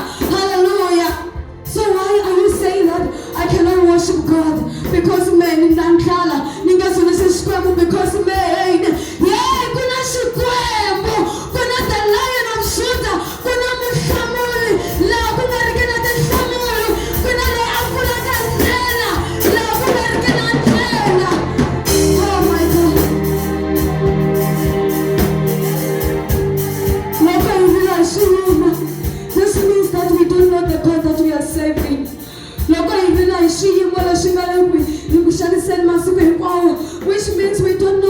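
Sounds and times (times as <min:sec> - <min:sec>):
voices singing worship song: 0:00.0 - 0:30.6
instrumental backing with beat: 0:00.0 - 0:38.0.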